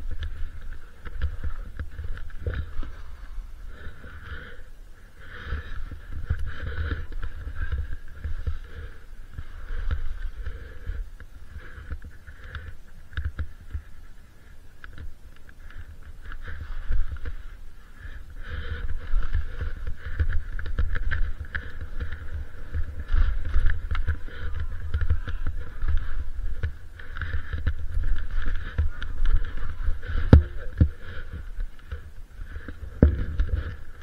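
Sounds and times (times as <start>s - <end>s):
skis scraping over snow: 0.0s - 34.0s.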